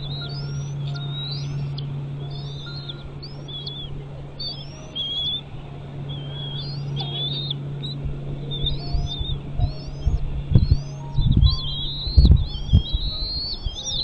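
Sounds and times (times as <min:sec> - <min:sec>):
eagle whistled chirps: 0:00.0 - 0:05.5, 0:06.1 - 0:14.0
steady low hum: 0:00.0 - 0:14.0.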